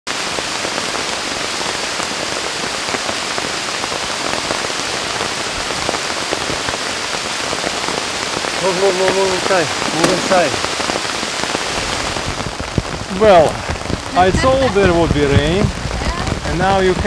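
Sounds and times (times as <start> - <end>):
heavy rain on foliage: 0.0 - 17.0.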